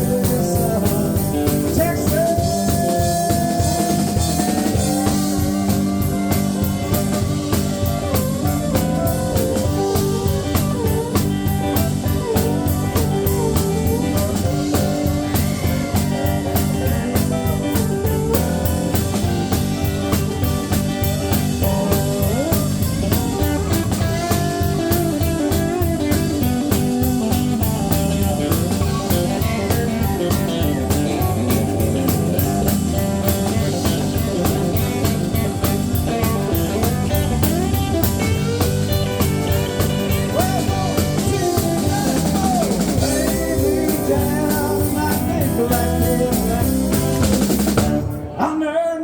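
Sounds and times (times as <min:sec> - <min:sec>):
drum kit beat: 0:00.0 - 0:48.4
lead guitar bent notes: 0:00.0 - 0:48.4
bass: 0:00.0 - 0:49.0.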